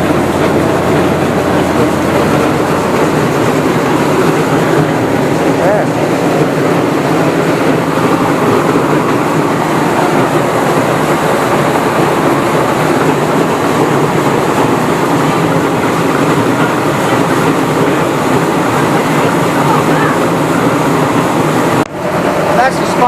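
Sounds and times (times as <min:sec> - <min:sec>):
milling machine rattling and humming: 0:00.0 - 0:23.0.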